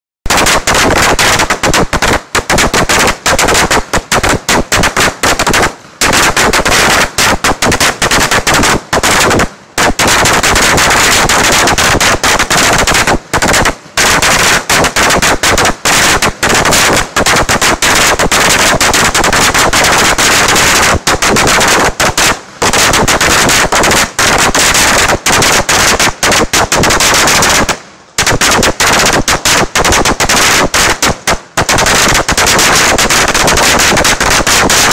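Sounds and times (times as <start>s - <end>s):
firecrackers crackling: 0.3s - 34.9s.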